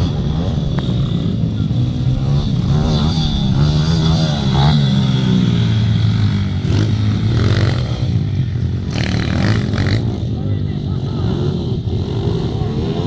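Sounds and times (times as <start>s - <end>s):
pit bike engines revving: 0.0s - 13.0s.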